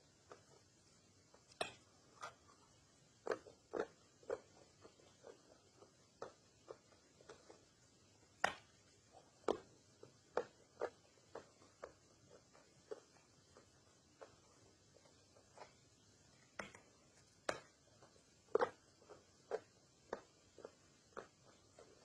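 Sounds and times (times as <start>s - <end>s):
crunching and chewing: 0.1s - 22.0s.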